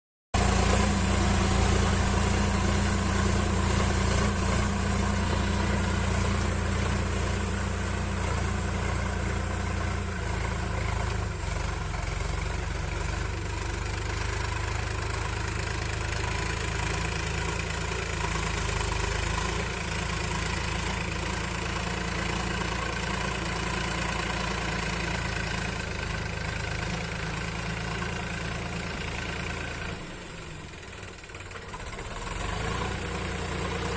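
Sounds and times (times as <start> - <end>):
tractor diesel engine running: 0.4 - 33.9.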